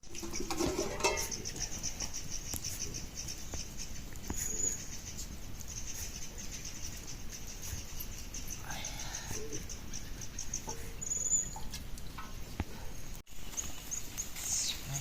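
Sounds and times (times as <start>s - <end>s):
insects chirring: 0.0s - 12.6s, 13.3s - 15.0s.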